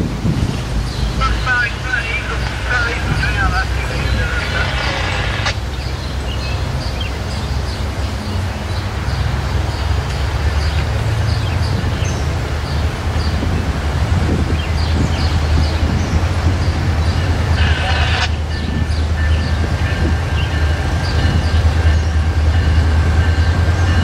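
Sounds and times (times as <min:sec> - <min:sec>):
low engine drone: 0:00.0 - 0:23.9
small birds chirping: 0:00.8 - 0:24.0.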